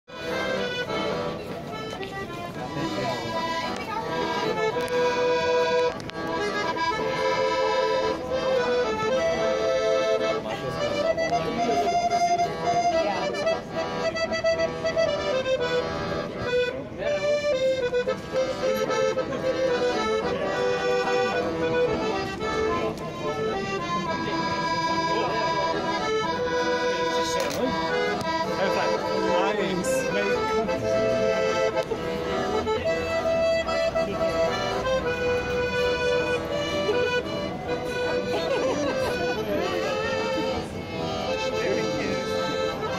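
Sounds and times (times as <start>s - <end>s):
piano accordion melody: 0.1s - 42.9s.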